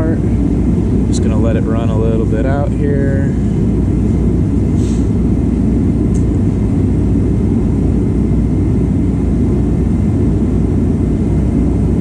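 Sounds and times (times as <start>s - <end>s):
space heater rushing: 0.0s - 12.0s.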